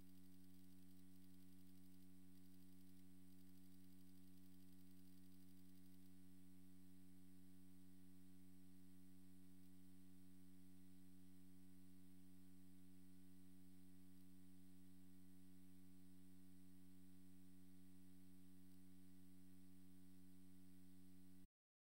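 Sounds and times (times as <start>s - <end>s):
low electrical hum: 0.0s - 21.5s.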